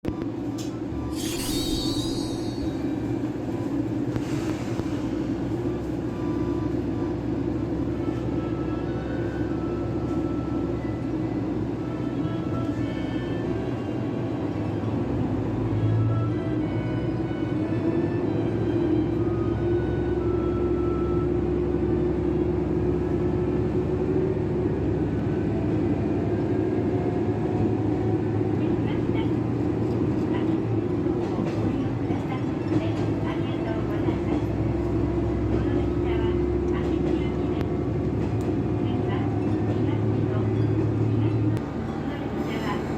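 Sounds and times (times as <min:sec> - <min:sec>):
diesel railcar engine drone: 0:00.0 - 0:42.9.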